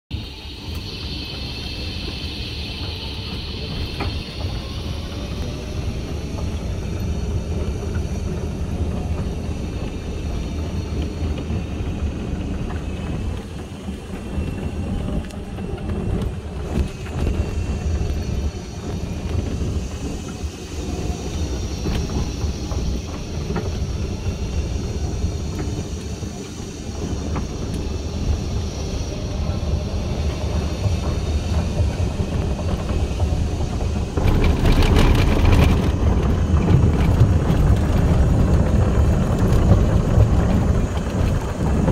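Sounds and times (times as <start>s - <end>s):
buggy cart rumbling and rattling: 0.1s - 41.9s
wheels rolling on wooden boardwalk: 0.2s - 41.9s.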